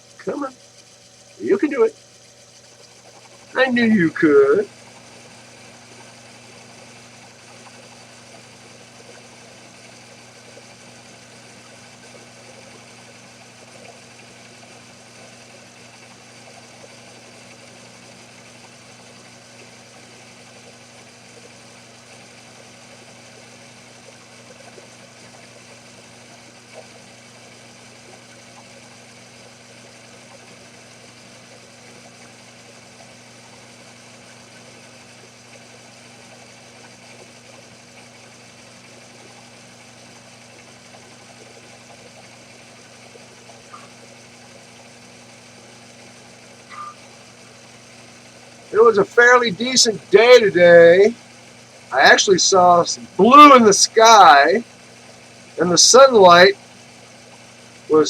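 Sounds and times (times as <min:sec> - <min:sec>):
mini lathe running: 0:00.0 - 0:58.0.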